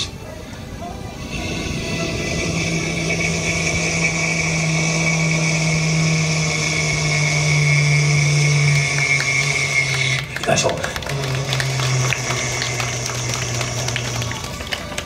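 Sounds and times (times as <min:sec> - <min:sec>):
man imitating airplane engine: 0:01.2 - 0:14.5.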